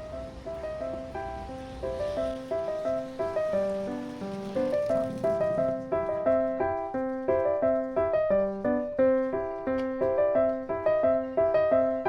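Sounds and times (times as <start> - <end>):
light melody of clear notes: 0.0 - 12.0.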